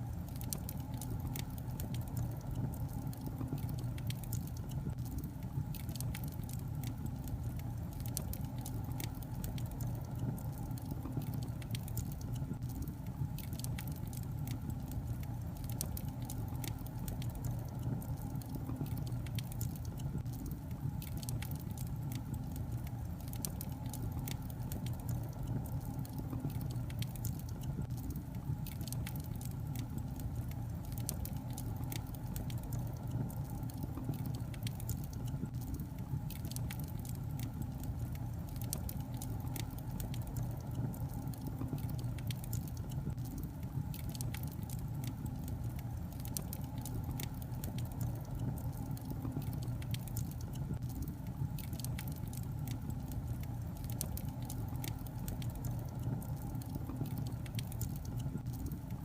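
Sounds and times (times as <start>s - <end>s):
logs burning in a fireplace: 0.0s - 59.0s.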